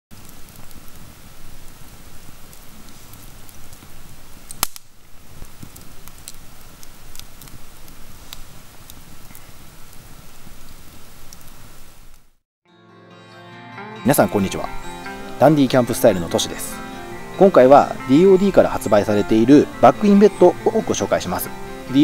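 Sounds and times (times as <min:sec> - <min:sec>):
campfire crackling and popping: 0:00.1 - 0:12.4, 0:14.5 - 0:22.0.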